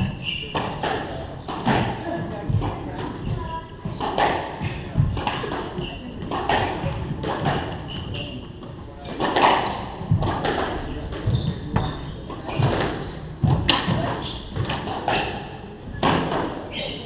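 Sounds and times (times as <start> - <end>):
shoe squeaks: 0.0 - 2.0, 2.9 - 16.0, 16.6 - 17.0
racket and ball smacks: 0.5 - 8.2, 9.1 - 16.6.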